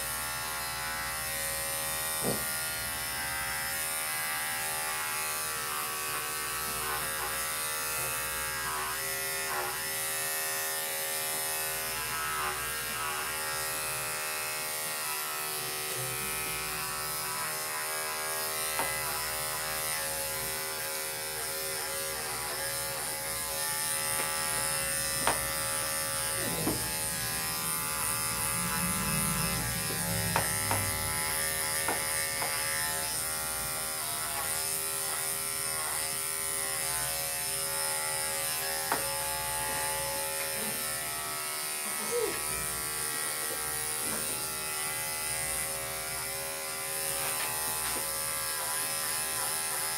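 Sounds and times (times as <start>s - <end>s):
electric dog clippers buzzing: 0.0s - 49.9s.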